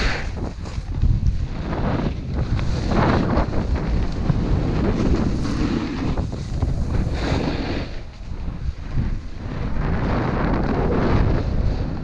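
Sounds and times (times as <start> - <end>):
snowboard sliding across snow: 0.0 - 12.0
wind buffeting microphone: 0.0 - 12.0.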